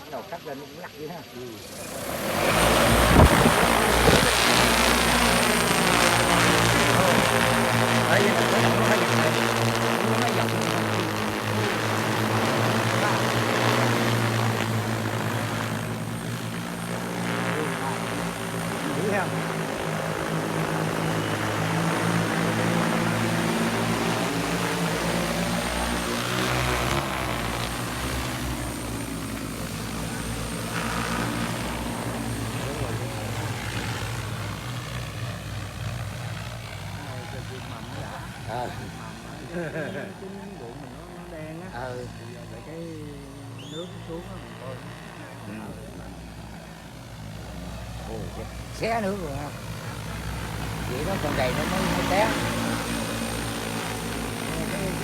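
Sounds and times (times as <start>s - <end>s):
drone rotors running: 0.0s - 55.0s.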